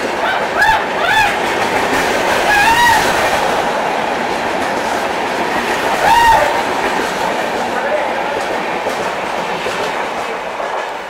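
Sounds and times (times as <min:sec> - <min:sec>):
train rushing past on rails: 0:00.0 - 0:11.0.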